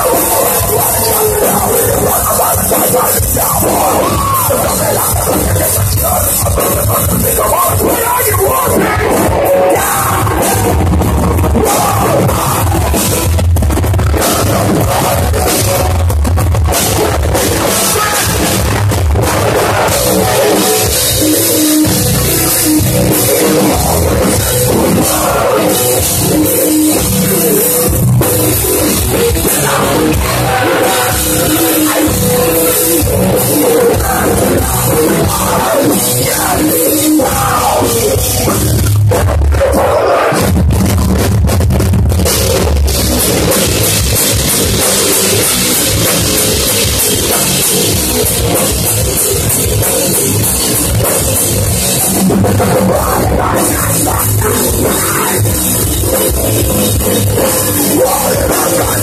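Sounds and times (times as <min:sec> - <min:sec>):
person singing: 0:00.0 - 0:13.4, 0:14.1 - 0:40.6, 0:44.7 - 0:59.0
bass guitar: 0:00.0 - 0:59.0
drum kit: 0:00.0 - 0:59.0
electric guitars: 0:00.0 - 0:59.0.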